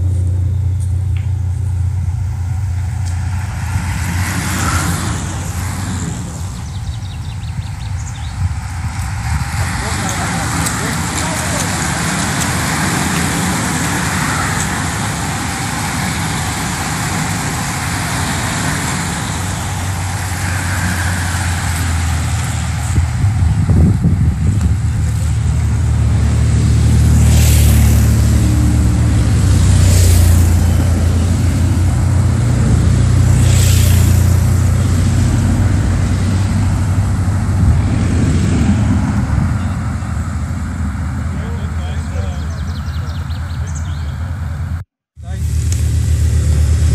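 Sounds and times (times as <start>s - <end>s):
bicycles hissing past: 0.0s - 44.4s
cars and motorbikes driving by: 0.0s - 46.9s.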